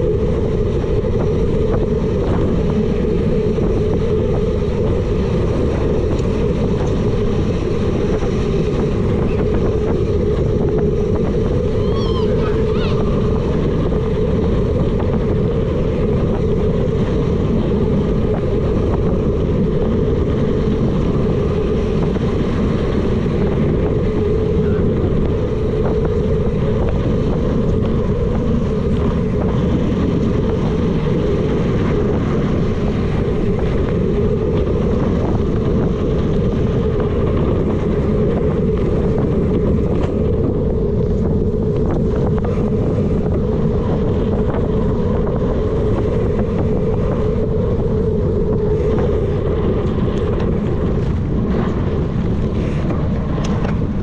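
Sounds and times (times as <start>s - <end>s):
tyres rumbling on dirt trail: 0.0s - 54.0s
wind rushing over microphone: 0.0s - 54.0s.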